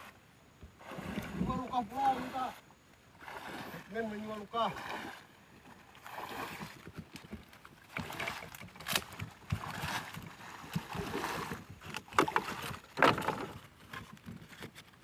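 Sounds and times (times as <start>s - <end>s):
splashing through swamp water: 0.8s - 14.0s.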